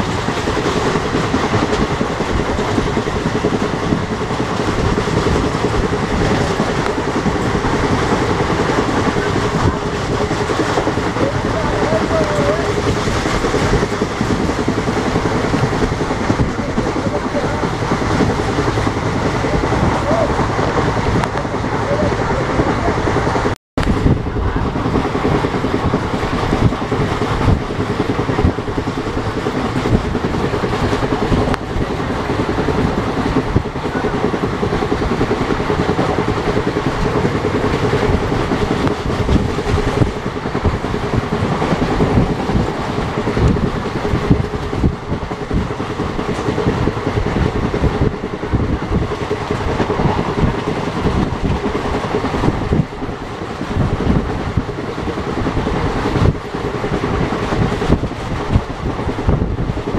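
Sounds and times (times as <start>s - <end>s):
train rumble on rails: 0.0s - 59.9s.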